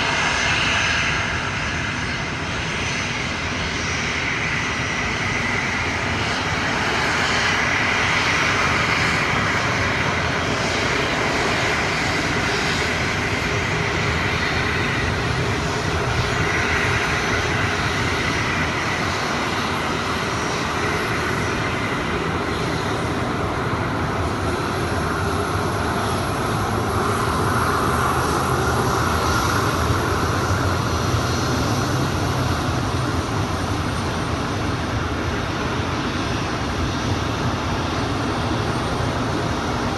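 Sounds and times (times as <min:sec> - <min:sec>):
jet engines whining: 0:00.0 - 0:39.9
wind buffeting microphone: 0:00.0 - 0:39.9.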